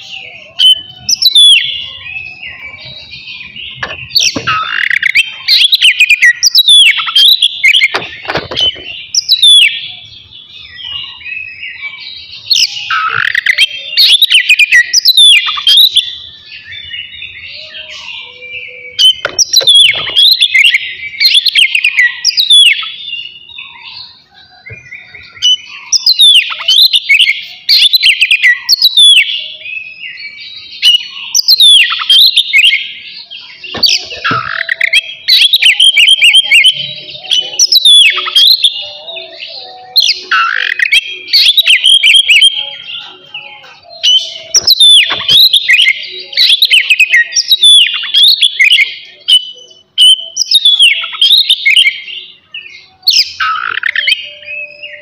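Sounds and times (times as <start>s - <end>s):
bird singing whistles and chatter: 0.0s - 55.0s.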